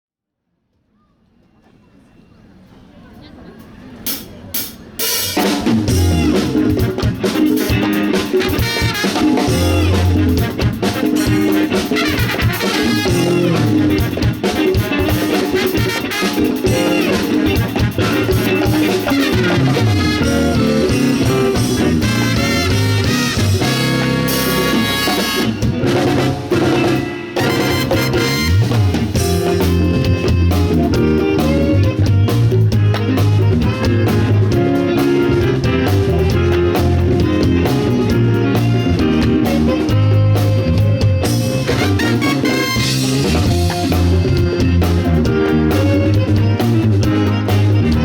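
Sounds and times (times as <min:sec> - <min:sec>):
wind band playing upbeat piece: 0:04.1 - 0:48.0.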